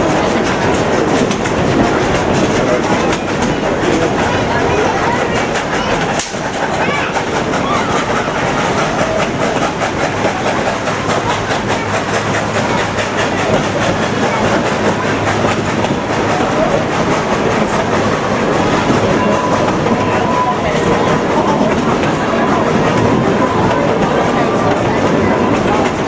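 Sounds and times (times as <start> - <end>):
train cars rumbling on rails: 0.0 - 26.0.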